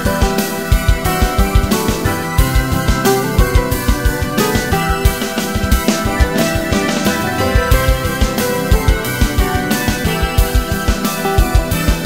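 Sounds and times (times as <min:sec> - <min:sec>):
steady drum beat: 0:00.0 - 0:12.0
sustained melodic tones: 0:01.3 - 0:11.3.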